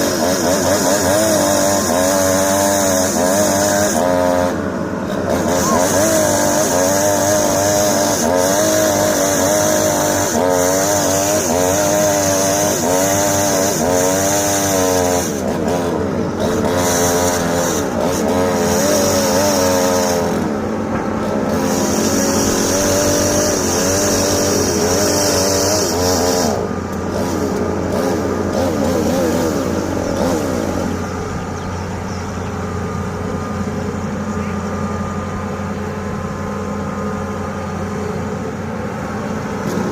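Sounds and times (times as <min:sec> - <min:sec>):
excavator diesel engine and hydraulics: 0:00.0 - 0:39.9.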